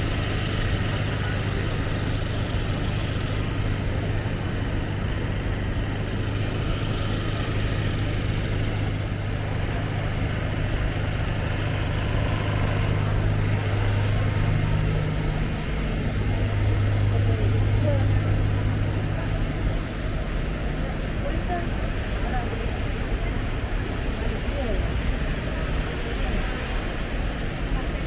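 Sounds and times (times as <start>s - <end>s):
idling engines hum: 0.0s - 28.0s
traffic noise: 0.0s - 28.0s.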